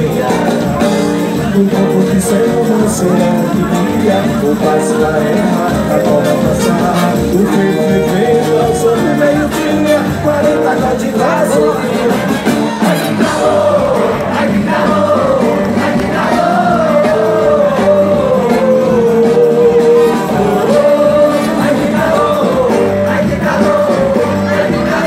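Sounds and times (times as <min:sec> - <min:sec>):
crowd singing and shouting: 0:00.0 - 0:25.0
lead vocal singing: 0:00.0 - 0:25.0
live band playing: 0:00.0 - 0:25.0.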